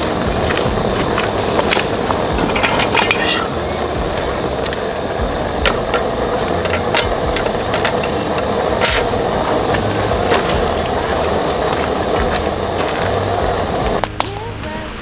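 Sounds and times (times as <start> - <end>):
campfire wood crackling: 0.0 - 15.0
meat sizzling on griddle: 0.0 - 15.0.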